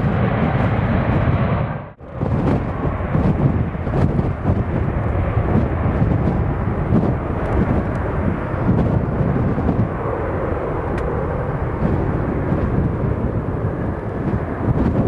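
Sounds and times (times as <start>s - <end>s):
jet airliner taking off: 0.0s - 15.0s
wind buffeting microphone: 0.0s - 15.0s.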